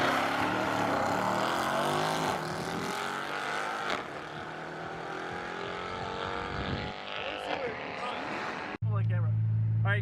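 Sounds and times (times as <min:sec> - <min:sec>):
car engines accelerating hard: 0:00.0 - 0:08.8.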